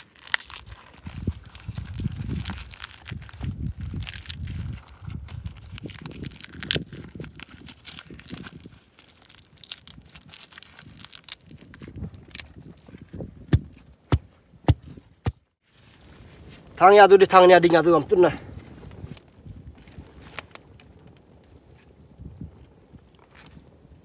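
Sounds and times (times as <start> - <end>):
leaves rustling and crinkling: 0.0 - 14.0, 15.5 - 24.0.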